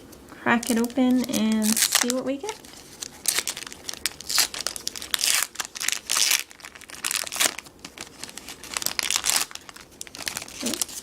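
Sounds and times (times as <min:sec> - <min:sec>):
foil wrapper crinkling and tearing: 0:00.6 - 0:11.0.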